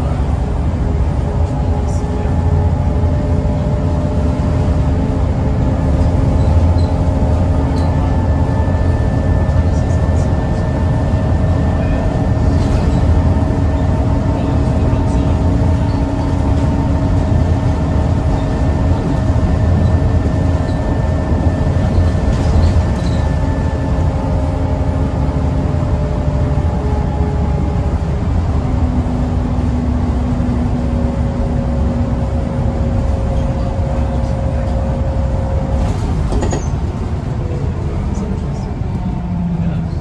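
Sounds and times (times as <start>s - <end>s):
bus engine and road rumble: 0.0s - 40.0s.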